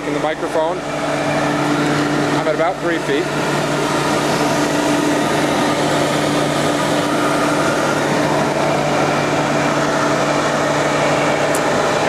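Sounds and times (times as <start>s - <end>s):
industrial vacuum running: 0.0s - 12.0s.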